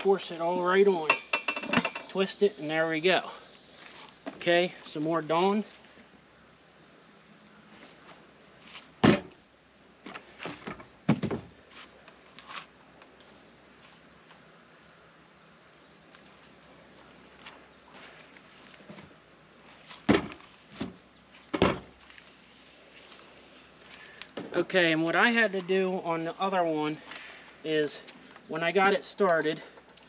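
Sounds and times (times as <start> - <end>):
high insect chirring: 0.0 - 30.0.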